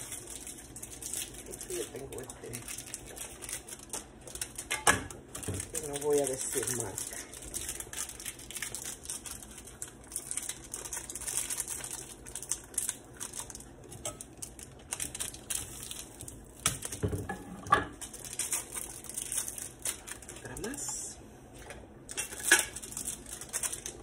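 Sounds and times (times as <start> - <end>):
wrapper crinkling and tearing: 0.0 - 17.0, 18.0 - 21.1, 22.1 - 24.0.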